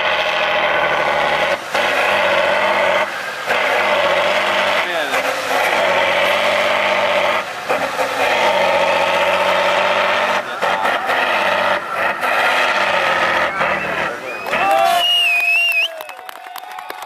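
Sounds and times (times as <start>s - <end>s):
diesel truck engine at high revs: 0.0s - 17.0s.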